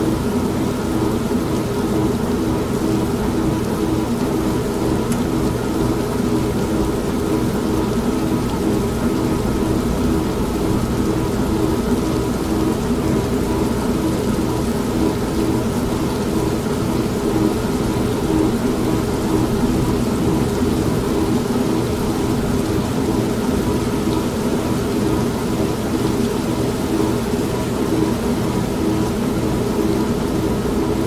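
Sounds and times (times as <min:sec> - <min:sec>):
continuous rain: 0:00.0 - 0:31.0
washing machine humming: 0:00.0 - 0:31.0.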